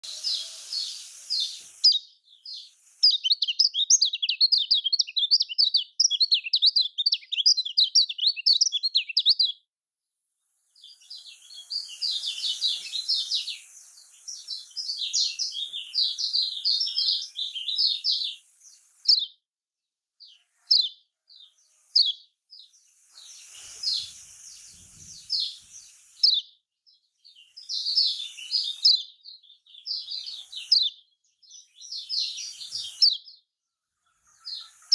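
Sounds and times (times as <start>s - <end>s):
bird twittering song: 0.0s - 9.6s, 10.7s - 19.4s, 20.2s - 34.9s.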